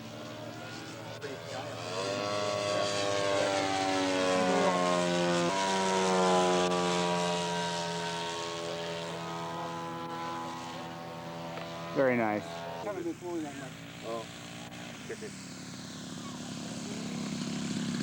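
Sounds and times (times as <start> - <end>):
model airplane engine passing: 0.0 - 18.0.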